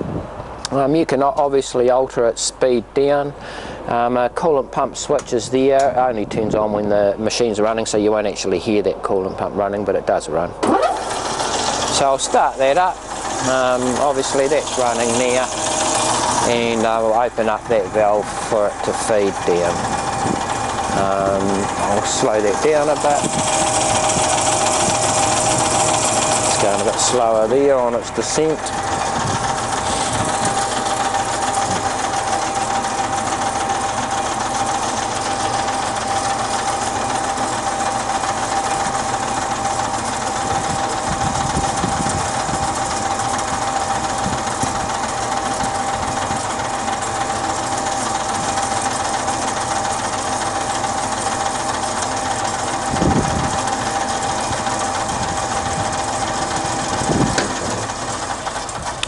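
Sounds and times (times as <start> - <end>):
bandsaw running with a whine: 10.6 - 59.0.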